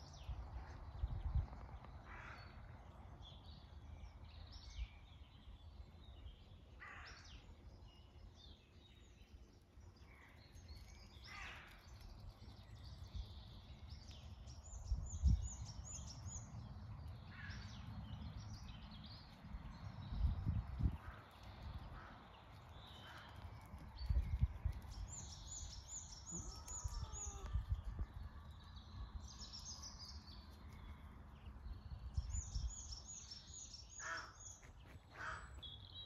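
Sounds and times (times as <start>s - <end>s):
bird calls and chirps: 0.0s - 36.0s.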